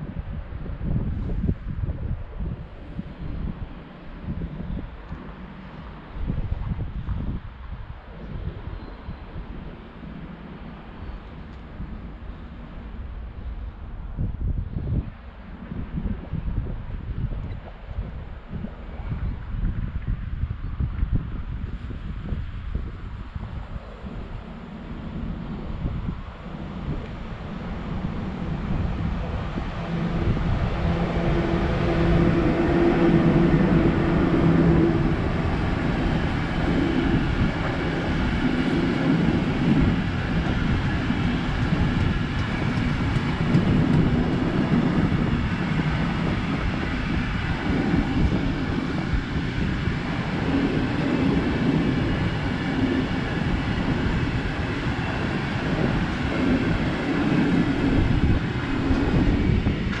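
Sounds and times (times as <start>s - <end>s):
electric locomotive hum: 0.0s - 60.0s.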